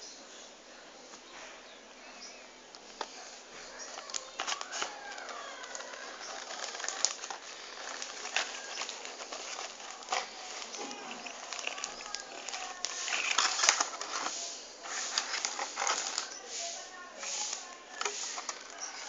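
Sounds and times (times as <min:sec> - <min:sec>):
packaging clicks and crinkles: 0:02.7 - 0:16.4, 0:17.3 - 0:19.0.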